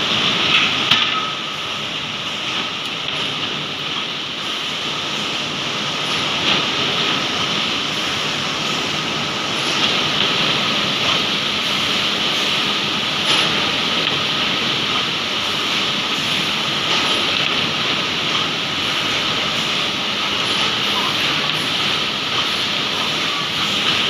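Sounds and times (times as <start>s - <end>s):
industrial machinery hissing: 0.0s - 24.0s.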